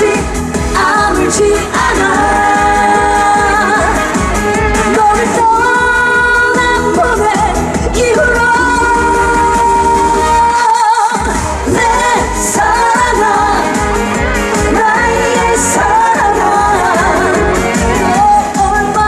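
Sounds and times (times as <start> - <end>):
backing track with pounding beat: 0.0 - 19.0
woman singing: 0.0 - 19.0.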